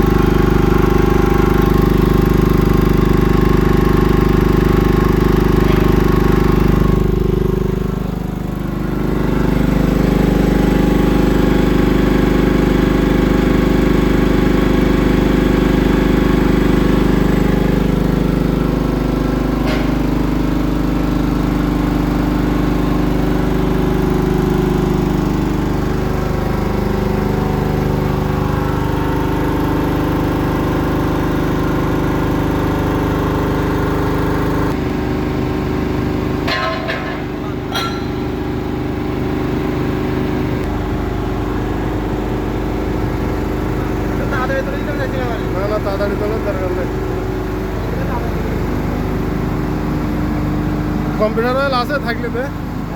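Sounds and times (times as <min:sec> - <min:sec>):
air compressor running: 0:00.0 - 0:52.9.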